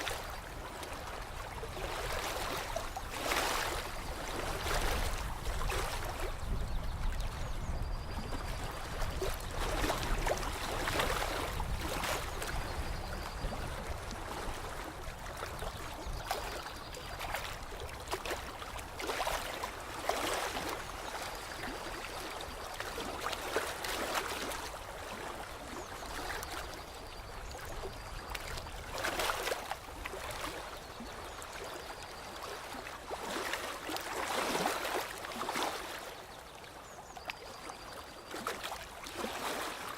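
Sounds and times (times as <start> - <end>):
water lapping and trickling: 0.0 - 39.9.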